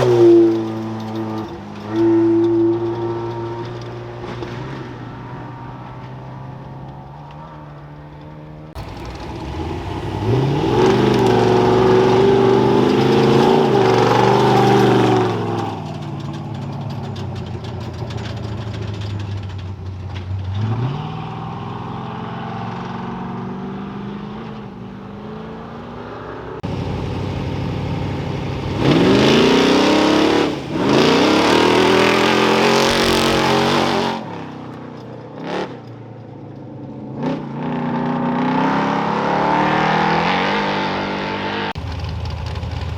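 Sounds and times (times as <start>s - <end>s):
race vehicle engines revving: 0.0s - 42.9s.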